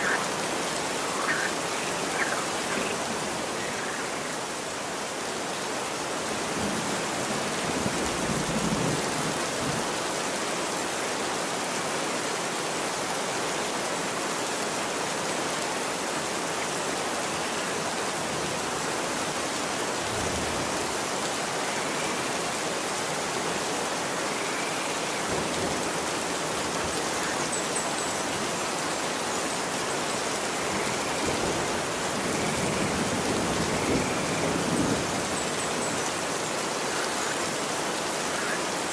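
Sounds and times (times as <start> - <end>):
rain falling on street: 0.0 - 38.9.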